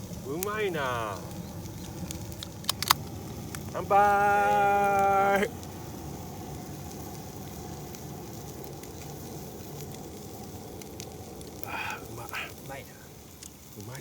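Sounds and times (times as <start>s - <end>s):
food sizzling on a griddle: 0.0s - 14.0s.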